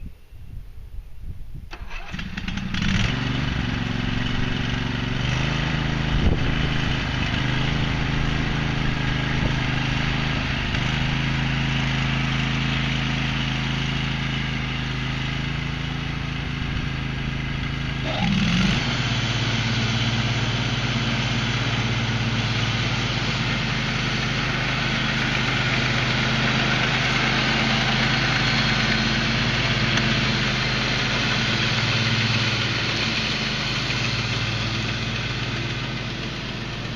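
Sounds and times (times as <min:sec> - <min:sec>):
riding lawn mower engine: 0:01.6 - 0:36.9.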